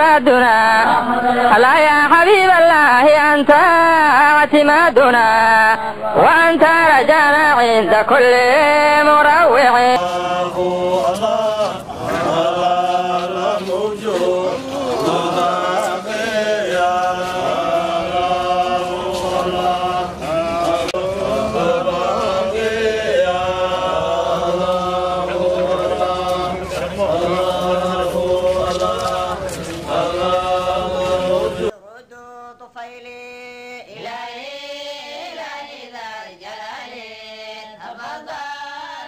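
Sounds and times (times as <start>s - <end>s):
men chanting: 0.0s - 31.8s, 32.8s - 39.0s.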